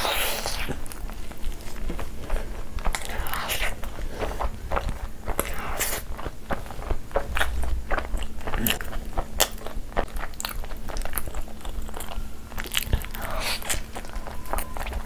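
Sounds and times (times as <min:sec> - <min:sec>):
wet chewing and mouth smacks: 0:00.0 - 0:15.0.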